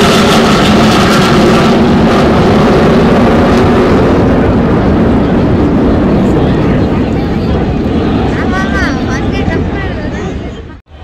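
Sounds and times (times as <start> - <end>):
jet engine high whine: 0.0 - 11.0
jet engine roaring: 0.0 - 11.0.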